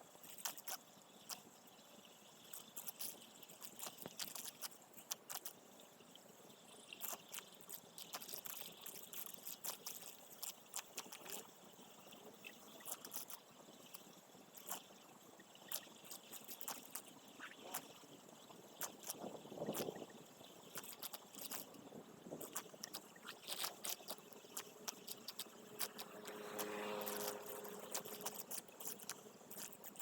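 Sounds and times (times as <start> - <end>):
small clicks and crackles: 0.0 - 30.0
water trickling and splashing: 0.0 - 30.0.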